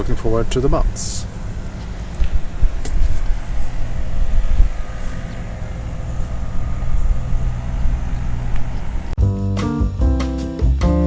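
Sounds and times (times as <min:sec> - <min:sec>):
vehicle engine and road rumble: 0:00.0 - 0:09.2.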